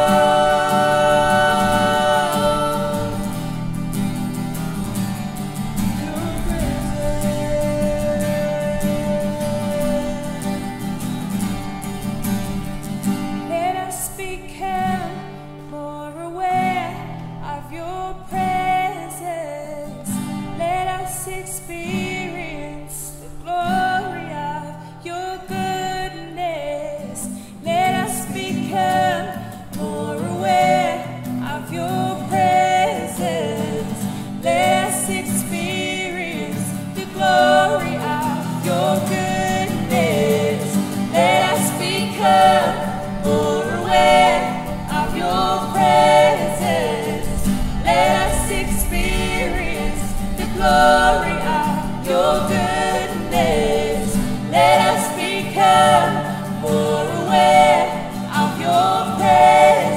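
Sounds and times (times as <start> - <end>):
group singing worship song: 0.0 - 15.4, 16.1 - 59.9
strummed acoustic guitar: 0.0 - 59.9.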